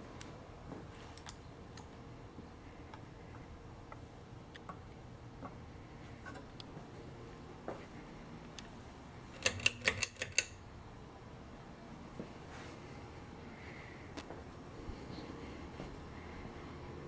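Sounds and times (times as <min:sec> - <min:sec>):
ceiling fans whirring: 0:00.0 - 0:17.0.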